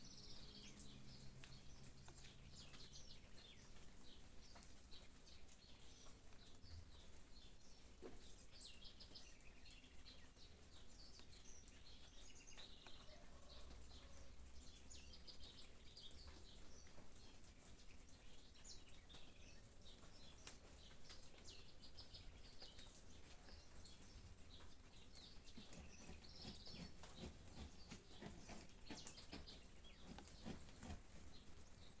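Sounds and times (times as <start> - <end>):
faint rain patter and drips: 0.0 - 32.0
small birds chirping: 0.0 - 32.0.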